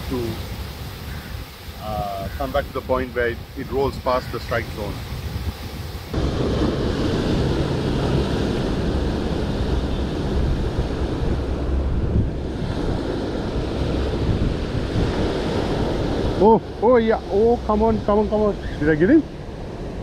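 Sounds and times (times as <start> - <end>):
surf washing onto rocks: 0.0 - 18.6
wind noise on microphone: 0.0 - 20.0.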